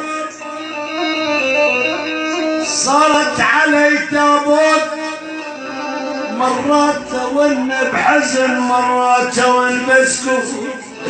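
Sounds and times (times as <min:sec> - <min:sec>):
string instruments playing melody: 0:00.0 - 0:09.4.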